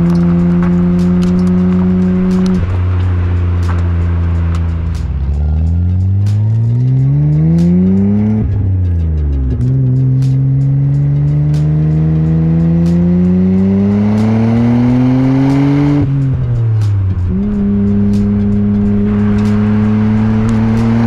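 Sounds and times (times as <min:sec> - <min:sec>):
car engine accelerating through gears: 0:00.0 - 0:21.0.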